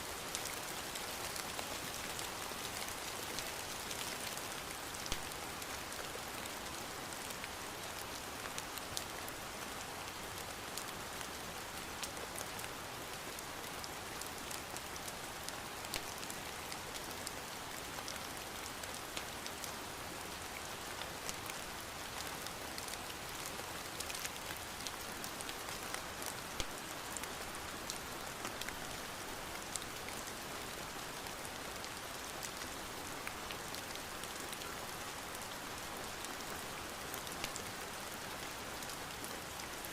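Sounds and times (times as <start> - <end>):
steady rain falling: 0.0 - 39.9
rain drops ticking: 0.1 - 39.9.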